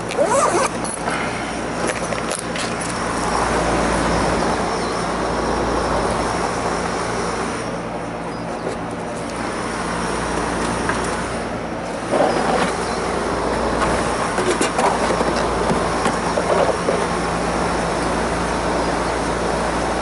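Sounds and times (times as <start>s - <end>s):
air conditioning unit running: 0.0s - 20.0s.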